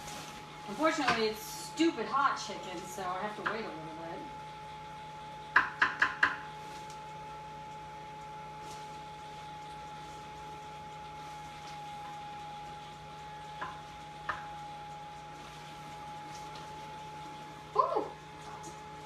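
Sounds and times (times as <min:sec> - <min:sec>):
electric blower fan whining: 0:00.0 - 0:19.0.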